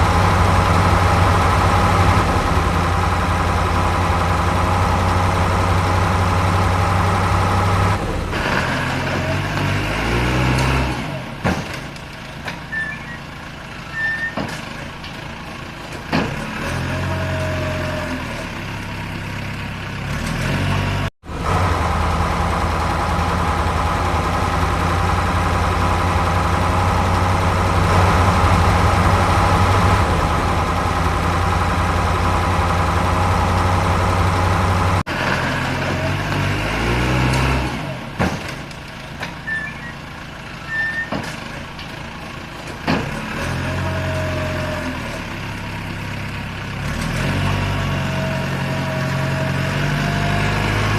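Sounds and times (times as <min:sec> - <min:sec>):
truck engines idling: 0:00.0 - 0:50.9.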